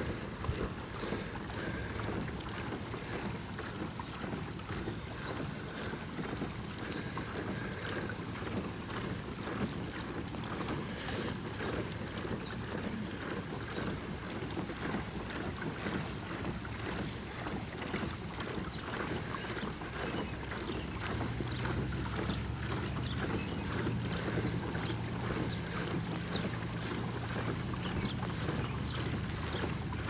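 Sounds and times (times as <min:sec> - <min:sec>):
boat motor running: 0:00.0 - 0:30.0
water washing along hull: 0:00.0 - 0:30.0.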